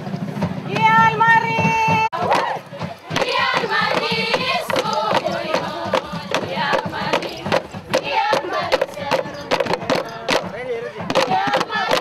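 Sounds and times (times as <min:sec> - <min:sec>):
bamboo tubes struck with sticks: 0:02.2 - 0:12.0
group chanting: 0:02.2 - 0:12.0.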